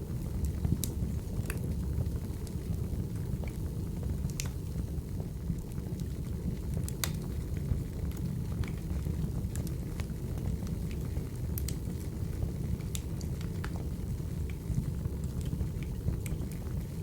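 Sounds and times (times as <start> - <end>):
firewood burning with crackles: 0.0 - 17.0.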